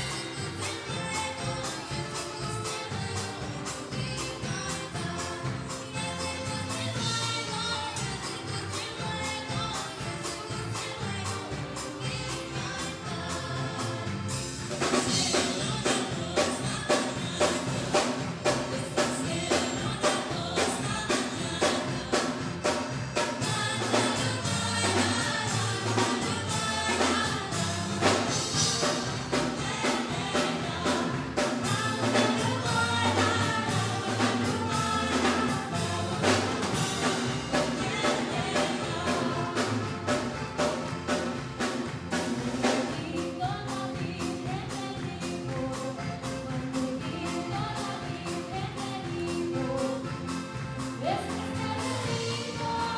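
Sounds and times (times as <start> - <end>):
live band music: 0.0 - 52.9
women singing: 0.0 - 52.9.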